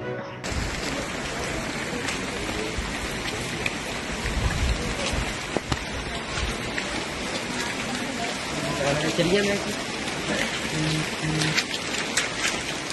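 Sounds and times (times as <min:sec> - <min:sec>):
heavy rain falling: 0:00.4 - 0:12.9
raindrop ticks: 0:00.4 - 0:12.9.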